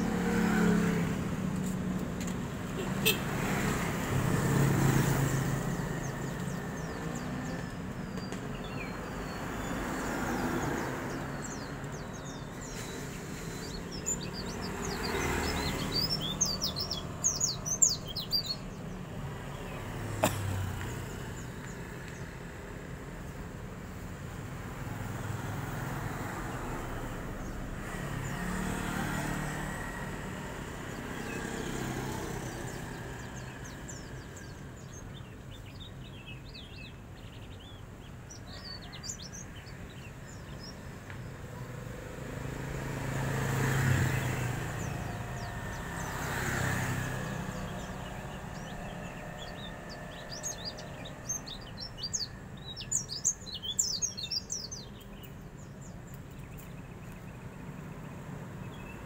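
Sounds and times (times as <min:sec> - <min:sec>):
passing cars: 0:00.0 - 0:59.0
songbird chirping: 0:00.0 - 0:59.0.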